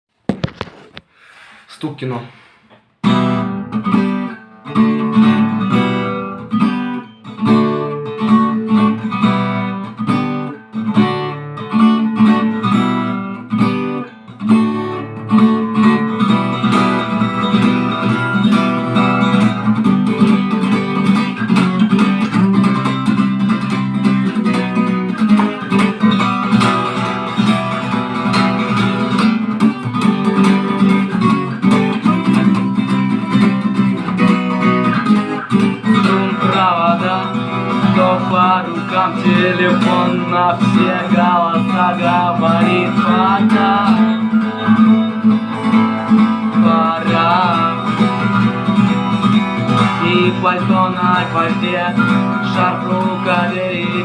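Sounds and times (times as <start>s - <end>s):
acoustic guitar strumming: 0.2s - 54.0s.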